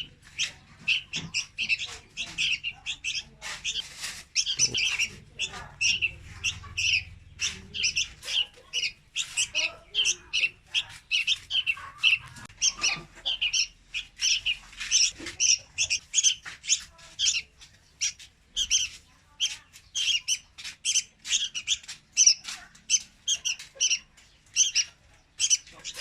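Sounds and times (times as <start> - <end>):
bird chirping rapidly: 0.0 - 26.0.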